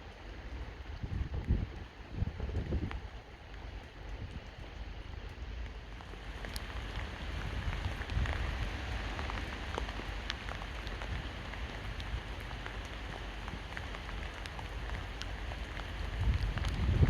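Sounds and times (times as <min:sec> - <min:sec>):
raindrops ticking on a surface: 0:00.0 - 0:17.0
steady rain hiss: 0:00.0 - 0:17.0.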